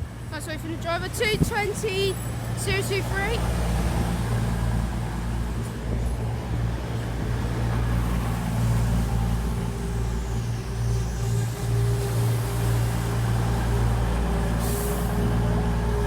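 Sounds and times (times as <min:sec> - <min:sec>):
diesel engines idling: 0:00.0 - 0:16.0.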